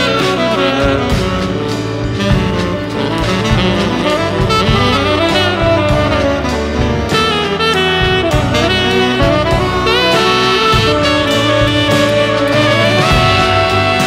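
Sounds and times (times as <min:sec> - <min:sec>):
jazz piano bass and drums: 0:00.0 - 0:14.0
saxophone solo: 0:00.0 - 0:14.0.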